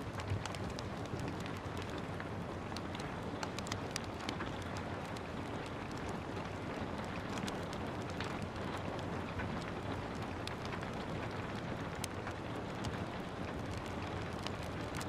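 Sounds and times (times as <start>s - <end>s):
steady rain falling: 0.0s - 15.0s
wood fire crackling: 0.0s - 15.0s.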